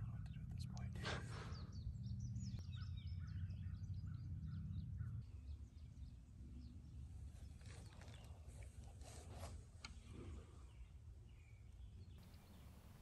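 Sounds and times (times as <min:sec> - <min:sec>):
distant bird calls: 0:00.0 - 0:08.6, 0:09.9 - 0:13.0
songbirds chirping: 0:00.0 - 0:13.0.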